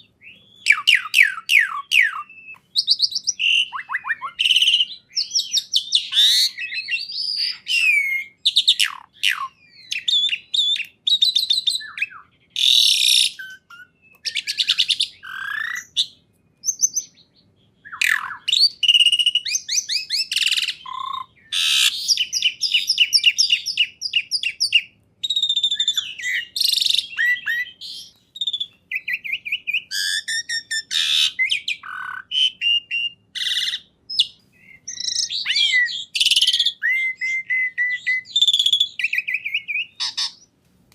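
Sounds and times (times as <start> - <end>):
songbird singing: 0.0 - 40.6.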